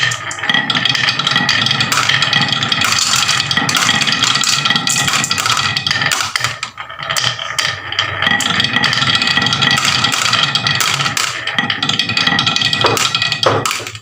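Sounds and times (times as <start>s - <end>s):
marbles rolling down wooden run: 0.0s - 14.0s.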